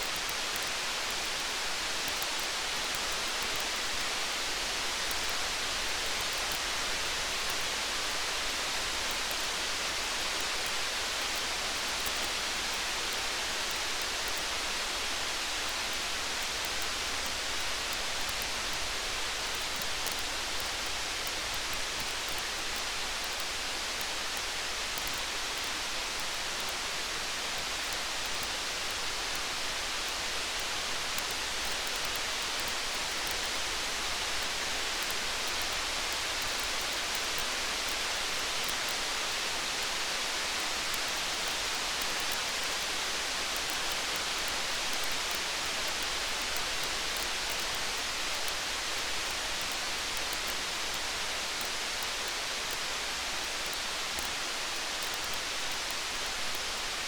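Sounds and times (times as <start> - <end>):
faint wood fire crackles: 0.0 - 57.0
steady rain hiss: 0.0 - 57.0.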